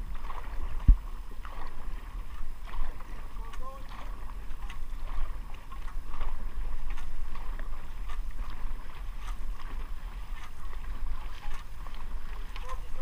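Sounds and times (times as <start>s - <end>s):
paddles splashing in water: 0.0s - 13.0s
wind buffeting microphone: 0.0s - 13.0s.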